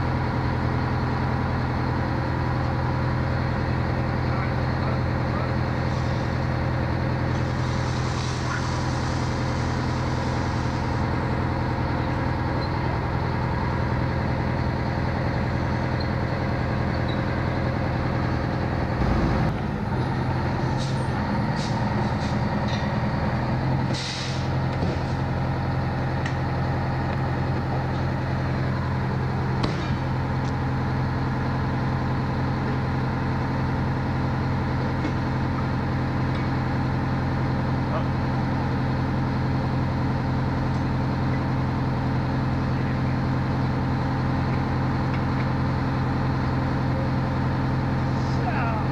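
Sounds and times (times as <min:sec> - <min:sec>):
engine idling: 0:00.0 - 0:48.9.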